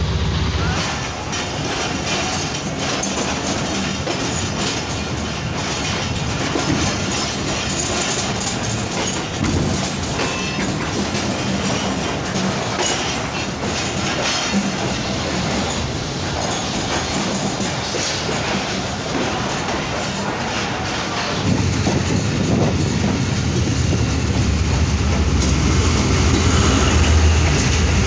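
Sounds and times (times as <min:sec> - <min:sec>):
train wheels rumbling on rails: 0:00.0 - 0:28.0
clickety-clack of rail joints: 0:00.1 - 0:28.0.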